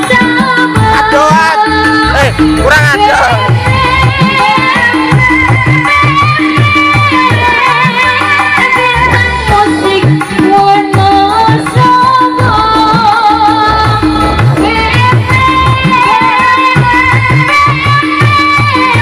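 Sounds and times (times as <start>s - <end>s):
bass: 0.0s - 19.0s
hand-drum rhythm: 0.0s - 19.0s
keyboard melody: 0.0s - 19.0s
woman singing into a microphone: 0.0s - 19.0s.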